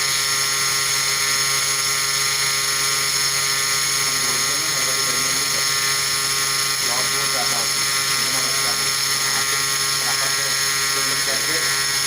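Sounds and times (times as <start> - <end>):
high-speed spindle whine: 0.0 - 12.0.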